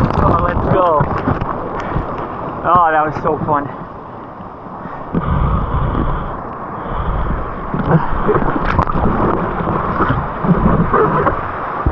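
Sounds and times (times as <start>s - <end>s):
water sloshing and splashing: 0.0s - 11.9s
wind buffeting microphone: 0.0s - 11.9s.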